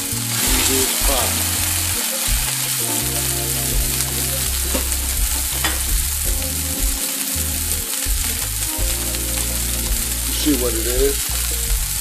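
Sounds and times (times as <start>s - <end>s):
low steady tones: 0.0s - 12.0s.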